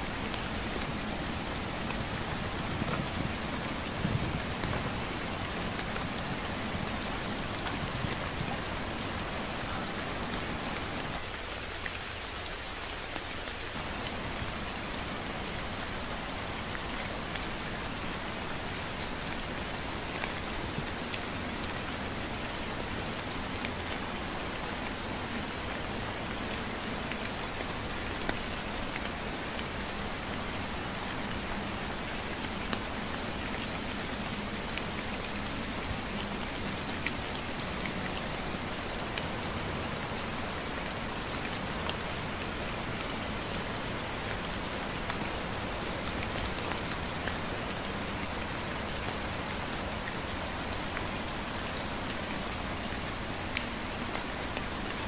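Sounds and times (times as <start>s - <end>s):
gentle rain falling: 0.0s - 55.0s.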